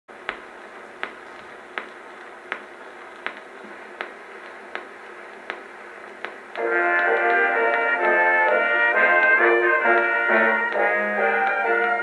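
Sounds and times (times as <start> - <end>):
record surface hiss: 0.1 - 12.0
record clicks: 0.2 - 12.0.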